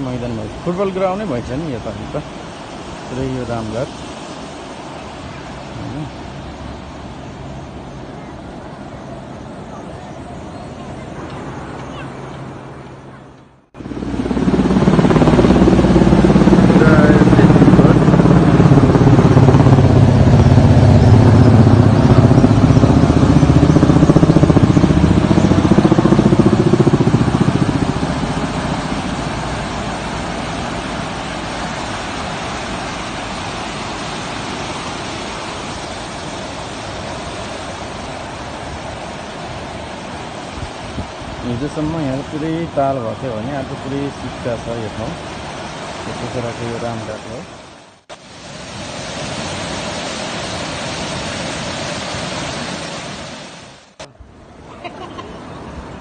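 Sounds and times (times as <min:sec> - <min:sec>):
river water rushing through rapids: 0:00.0 - 0:14.9, 0:15.6 - 0:56.0.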